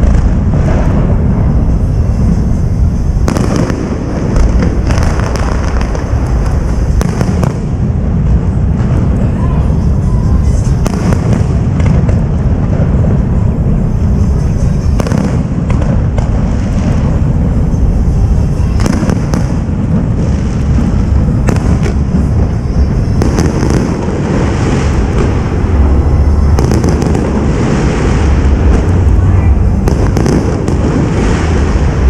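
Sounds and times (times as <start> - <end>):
fireworks bursting: 0.0 - 32.0
fireworks crackling: 0.0 - 32.0
fireworks deep booms: 0.0 - 32.0.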